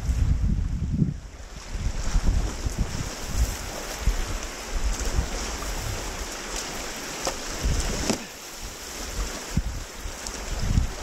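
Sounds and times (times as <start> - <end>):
wind buffeting microphone: 0.0 - 11.0
sharp water splashes: 1.8 - 11.0.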